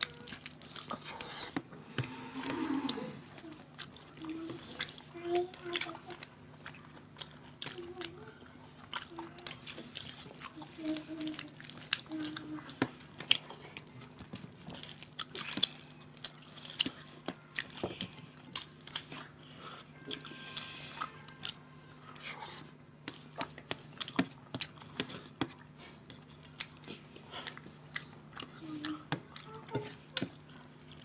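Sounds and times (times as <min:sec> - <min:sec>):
low steady hum: 0:00.0 - 0:31.0
wet chewing and lip-smacking: 0:00.0 - 0:31.0.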